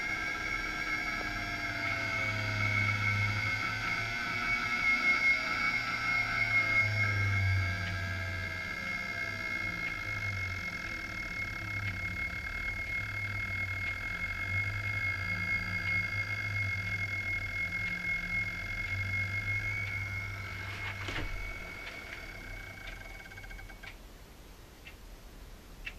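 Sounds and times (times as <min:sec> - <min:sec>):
high-pitched electrical whine: 0:00.0 - 0:24.0
low hum: 0:00.0 - 0:24.0
faint clicks: 0:00.5 - 0:24.0.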